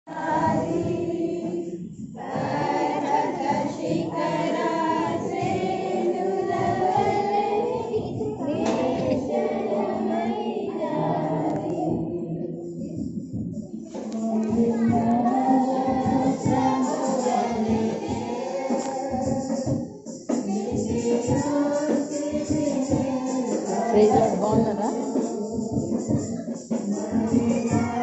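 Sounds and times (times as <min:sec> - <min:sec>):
congregation singing a hymn: 0:00.1 - 0:28.0.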